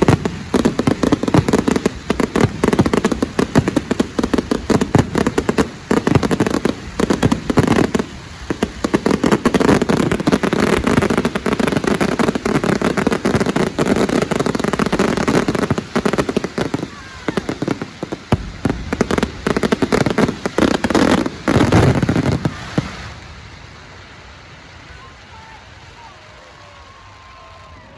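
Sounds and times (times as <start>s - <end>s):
fireworks bangs and crackling: 0.0s - 27.9s.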